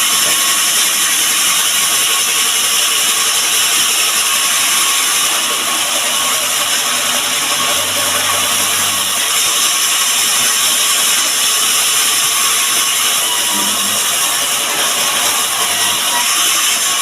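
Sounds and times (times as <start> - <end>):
electric power tool running: 0.0 - 17.0.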